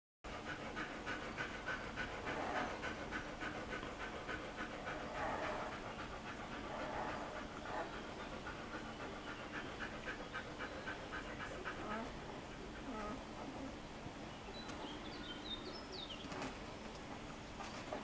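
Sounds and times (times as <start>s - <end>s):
dog panting: 0.3s - 13.8s, 15.1s - 18.0s.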